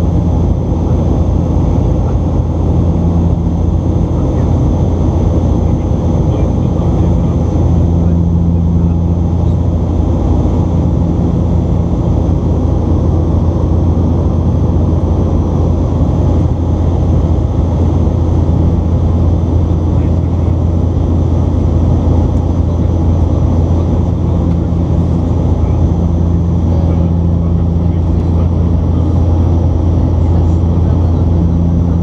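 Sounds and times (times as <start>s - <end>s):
turboprop engine drone: 0.0s - 32.0s.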